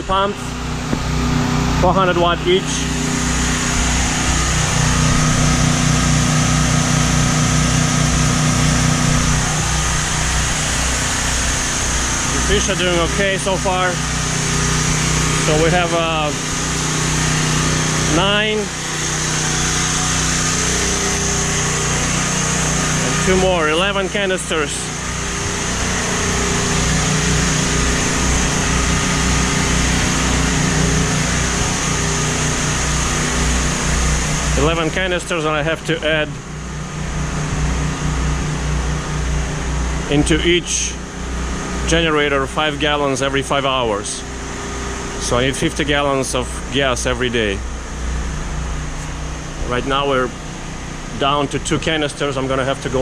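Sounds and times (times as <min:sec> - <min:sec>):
generators running: 0:00.0 - 0:53.0.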